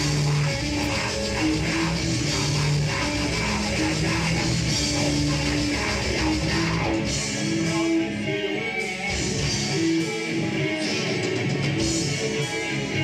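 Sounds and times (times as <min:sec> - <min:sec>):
bass guitar: 0:00.0 - 0:13.0
distorted electric guitars: 0:00.0 - 0:13.0
drum kit: 0:00.0 - 0:13.0.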